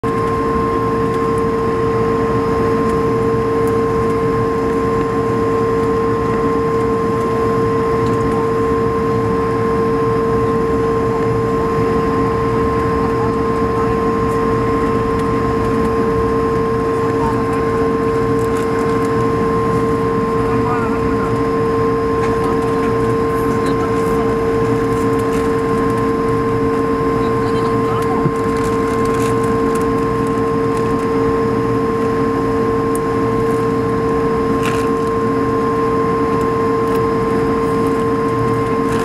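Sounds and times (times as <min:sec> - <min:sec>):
jet engines idling rumble: 0:00.0 - 0:39.0.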